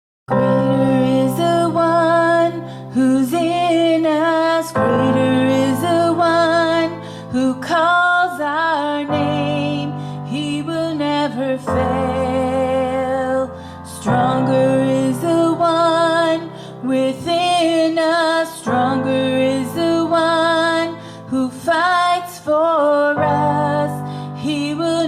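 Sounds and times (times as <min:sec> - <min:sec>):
held keyboard chords: 0:00.3 - 0:25.0.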